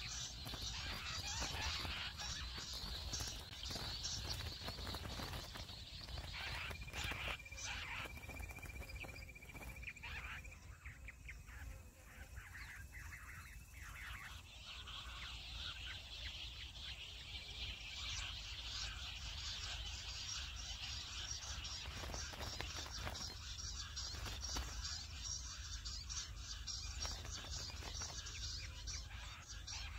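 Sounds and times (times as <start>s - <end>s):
quail chirping: 0.0s - 29.9s.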